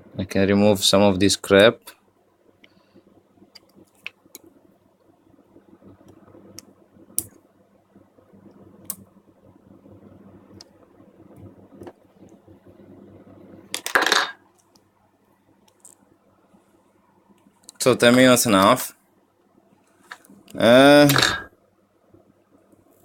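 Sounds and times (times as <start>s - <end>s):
small fan humming: 0.0s - 23.0s.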